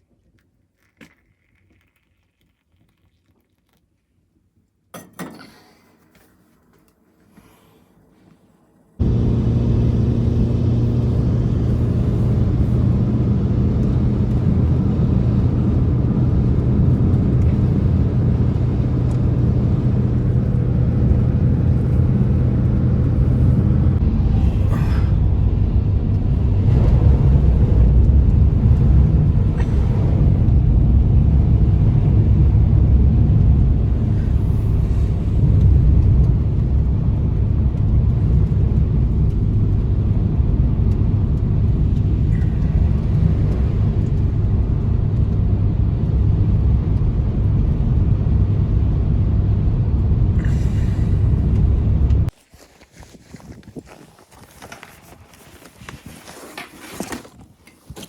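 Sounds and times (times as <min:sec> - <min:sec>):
faint hum: 0:06.0 - 0:53.0
blizzard wind roaring: 0:08.0 - 0:58.0.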